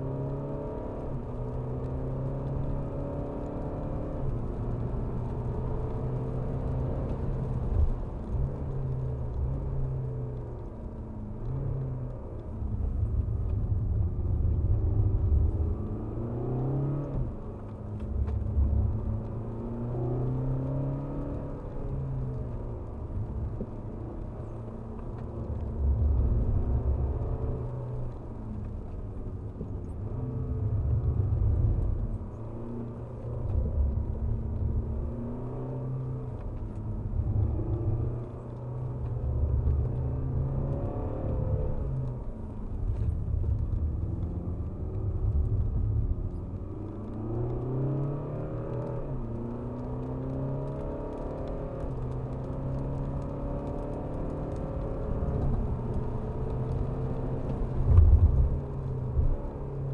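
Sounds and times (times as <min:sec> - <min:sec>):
car engine revving inside cabin: 0:00.0 - 0:59.9.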